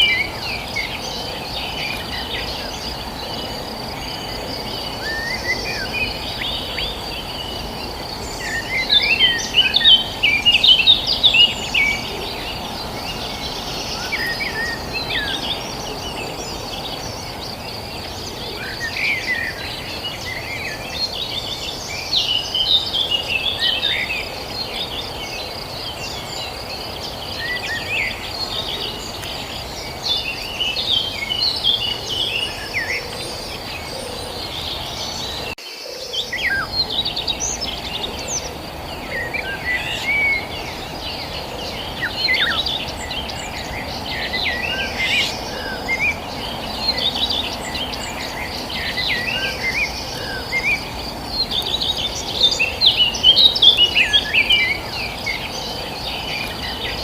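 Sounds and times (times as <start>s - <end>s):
high insect drone: 0.0s - 57.0s
small birds chirping: 0.0s - 57.0s.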